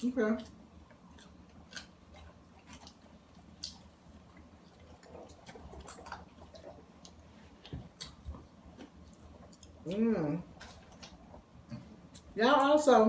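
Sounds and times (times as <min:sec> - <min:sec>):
person chewing food: 0:00.4 - 0:12.4.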